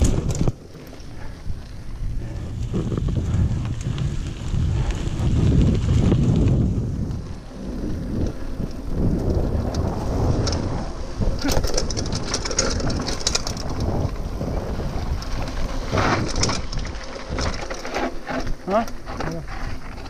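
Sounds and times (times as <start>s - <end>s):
wind on microphone: 0.0s - 18.6s
bike clicking and rattling: 0.0s - 20.0s
bike tyres rumbling on dirt: 0.0s - 20.0s.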